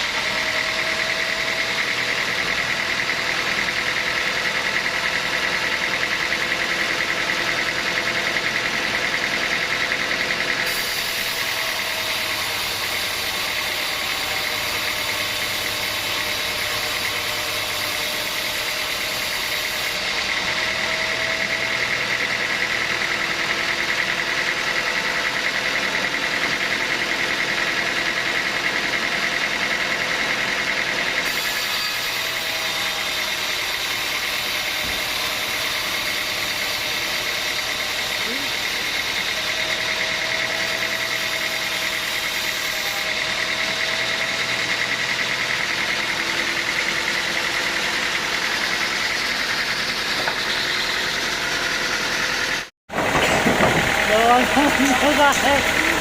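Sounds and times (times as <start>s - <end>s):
sawmill machinery whining drone: 0.0s - 56.0s.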